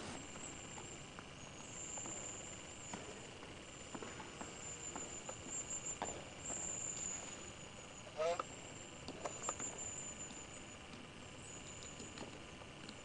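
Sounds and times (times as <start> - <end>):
thin high whine: 0.0 - 13.0.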